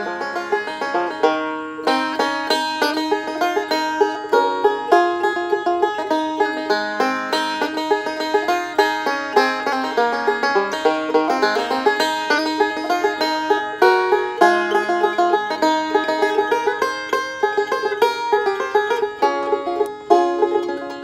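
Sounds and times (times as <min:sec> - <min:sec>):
banjo picking fast roll: 0:00.0 - 0:21.0.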